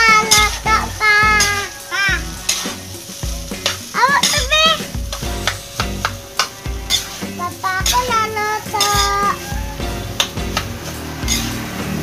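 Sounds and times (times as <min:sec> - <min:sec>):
background music with beat: 0:00.0 - 0:12.0
metal spoon scraping pan: 0:00.0 - 0:12.0
rice sizzling: 0:00.0 - 0:12.0.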